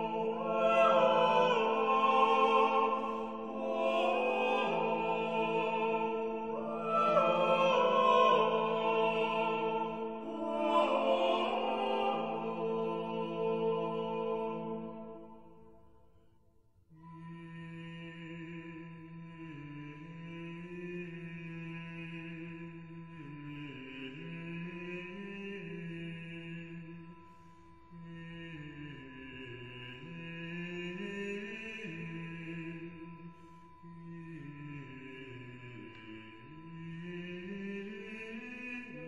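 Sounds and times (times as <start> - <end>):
slow chant with held notes: 0.0 - 16.0, 16.9 - 39.0.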